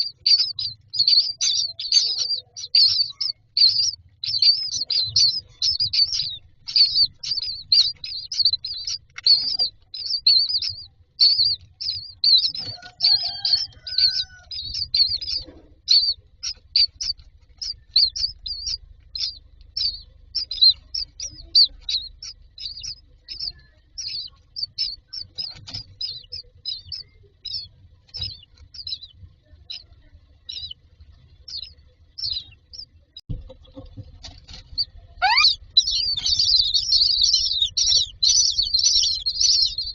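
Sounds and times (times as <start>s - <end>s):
nestlings chirping: 0.0s - 39.9s.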